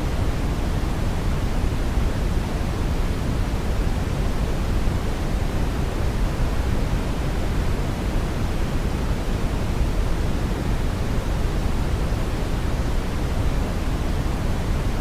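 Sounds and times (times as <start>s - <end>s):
deep white noise hiss: 0.0s - 15.0s.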